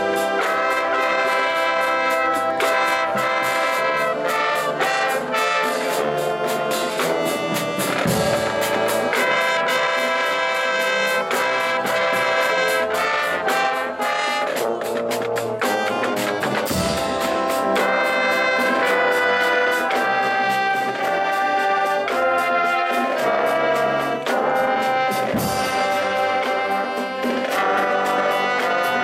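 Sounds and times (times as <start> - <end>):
brass section playing chords: 0.0 - 29.0
driving drum beat: 0.0 - 29.0.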